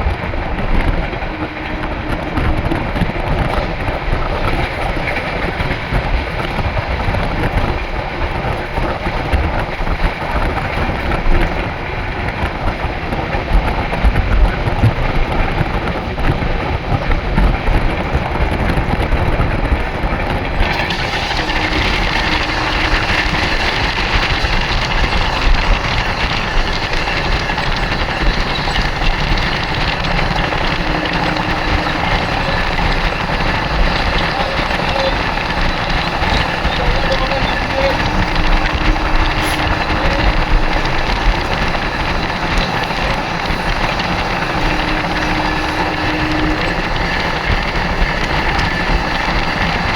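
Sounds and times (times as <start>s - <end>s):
train wheels rattling on rails: 0.0s - 49.9s.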